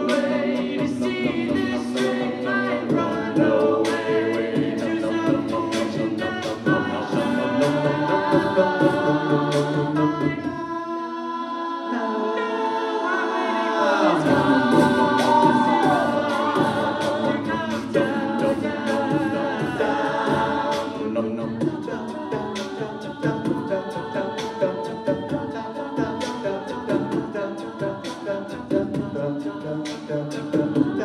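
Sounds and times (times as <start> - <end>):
a cappella group singing: 0.0 - 31.0.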